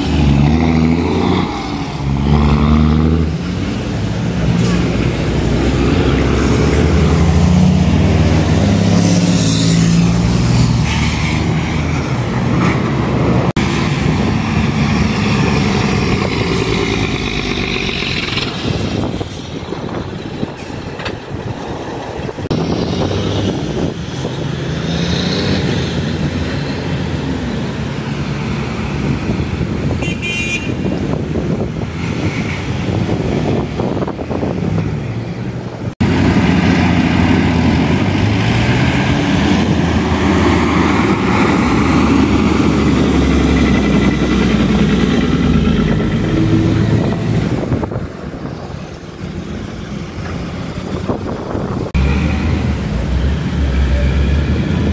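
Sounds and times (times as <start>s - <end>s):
passing traffic: 0.0s - 54.9s.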